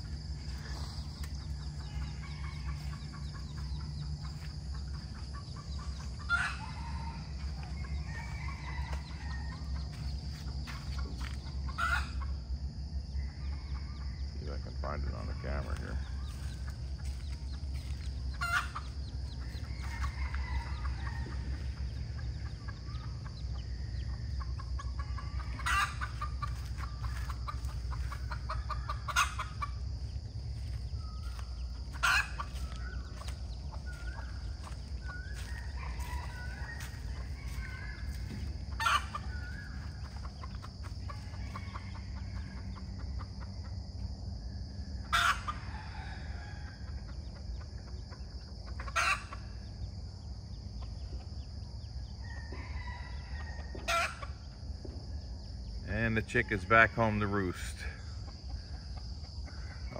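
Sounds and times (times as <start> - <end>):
chickens clucking and calling: 0.0 - 59.9.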